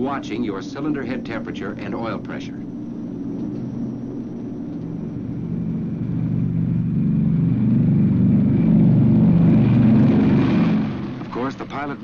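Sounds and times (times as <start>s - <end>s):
radial aircraft engines droning: 0.0s - 12.0s.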